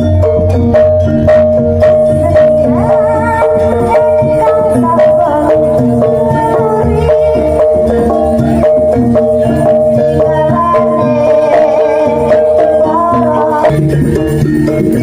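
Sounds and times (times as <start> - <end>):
wavering melody over held tone: 0.0 - 15.0.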